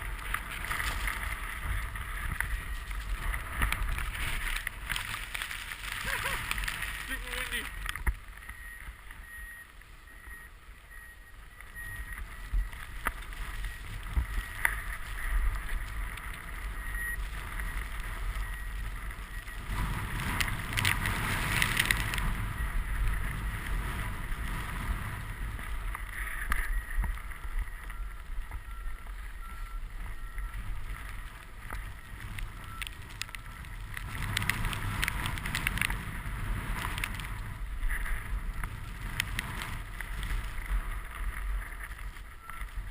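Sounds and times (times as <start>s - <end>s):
wind rushing on camera: 0.0s - 42.9s.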